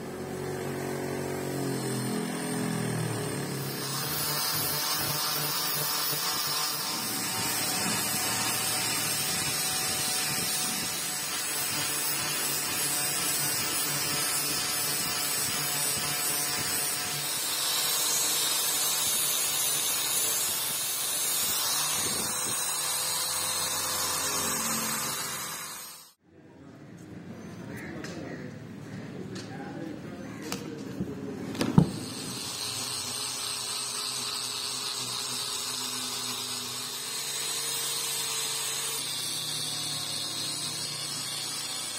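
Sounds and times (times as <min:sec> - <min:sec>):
angle grinder sanding metal: 0:00.0 - 0:26.2, 0:31.8 - 0:41.9.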